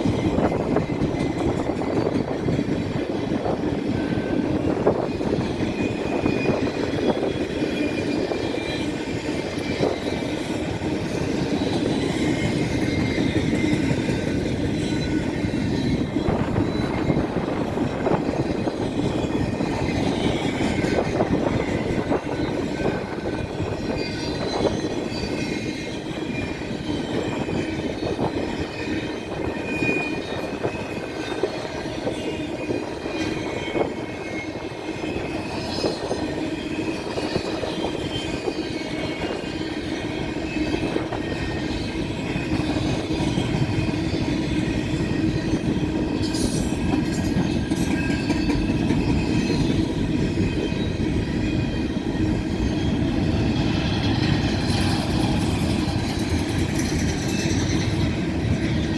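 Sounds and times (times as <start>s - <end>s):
freight train rumbling past: 0.0s - 58.9s.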